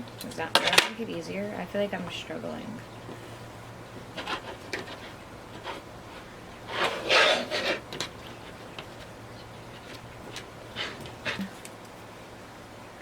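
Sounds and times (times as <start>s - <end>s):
fabric rubbing and scraping on hoop: 0.0s - 11.7s.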